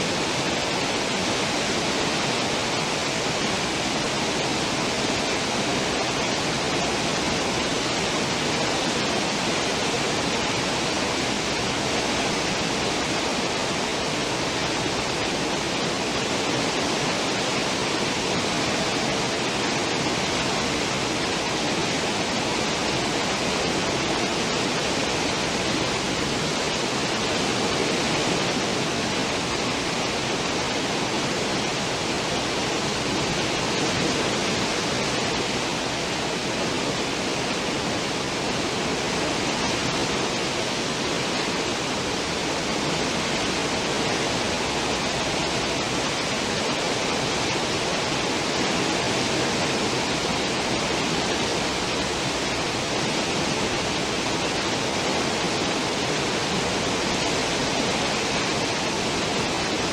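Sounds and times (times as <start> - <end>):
churning water rushing: 0.0 - 59.9.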